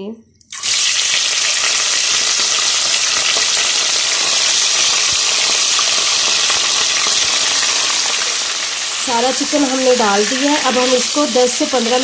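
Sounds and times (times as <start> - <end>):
chicken sizzling in hot oil: 0.5 - 12.0.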